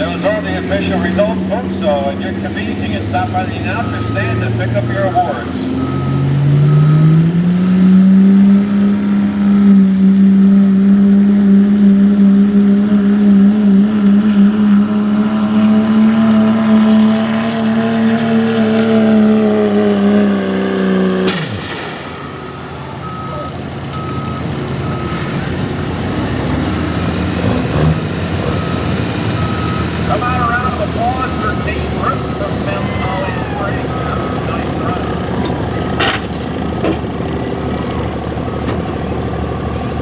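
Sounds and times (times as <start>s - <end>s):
diesel engine at high revs: 0.0s - 40.0s.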